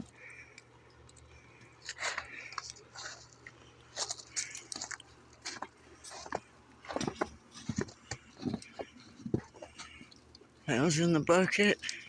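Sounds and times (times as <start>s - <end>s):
chickens pecking: 0.0s - 10.7s.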